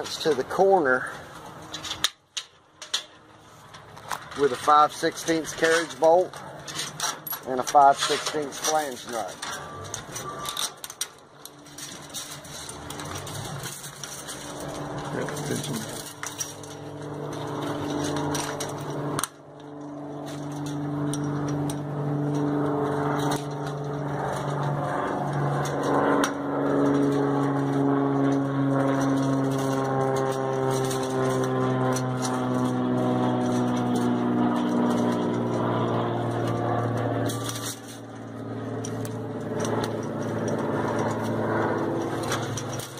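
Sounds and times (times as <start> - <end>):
engine running: 0.0 - 42.9
chain-link fence clicking: 1.6 - 42.9.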